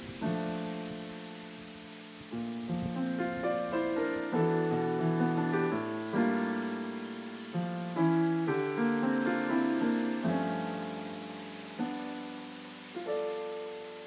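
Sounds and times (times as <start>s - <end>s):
piano chords ringing out: 0.0s - 14.0s.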